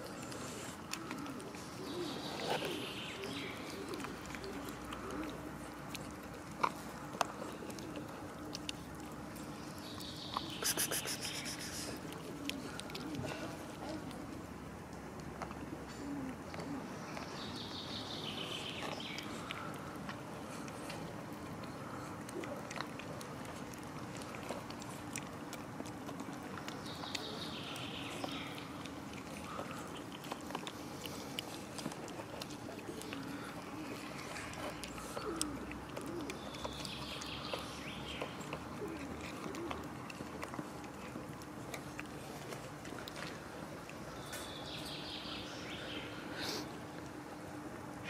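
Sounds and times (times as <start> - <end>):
cats chewing and lapping food: 0.0 - 48.0
steady background noise: 0.0 - 48.0.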